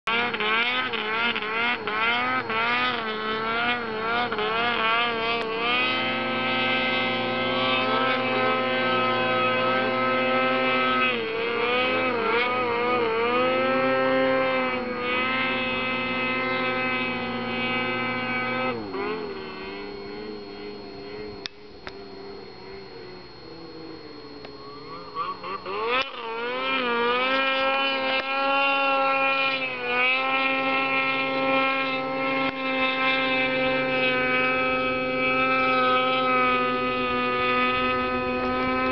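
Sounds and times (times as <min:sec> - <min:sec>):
snowmobile engine running: 0:00.1 - 0:38.9.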